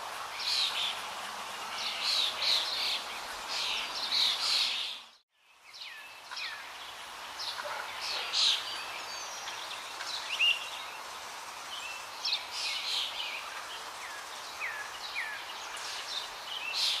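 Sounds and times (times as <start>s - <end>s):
background hiss: 0.0s - 17.0s
small birds chirping: 0.2s - 17.0s.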